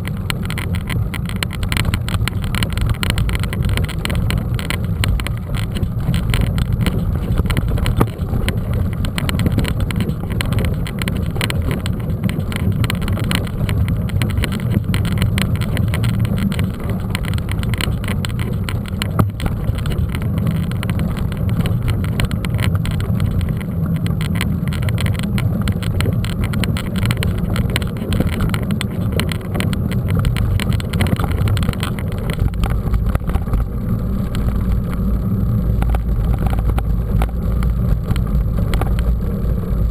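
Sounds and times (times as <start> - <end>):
bike rattling over rough ground: 0.0 - 39.9
wind rumble on microphone: 0.0 - 39.9.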